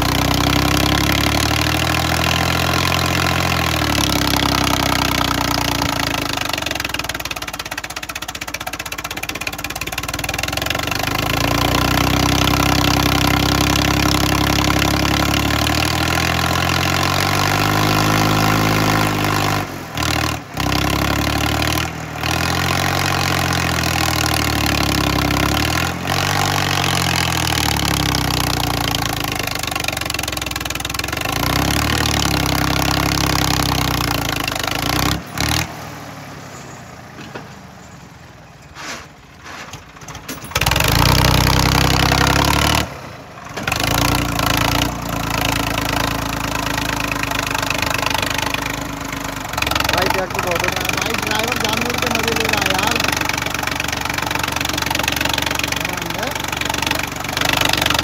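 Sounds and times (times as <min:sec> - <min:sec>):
tractor diesel engine labouring: 0:00.0 - 0:58.0.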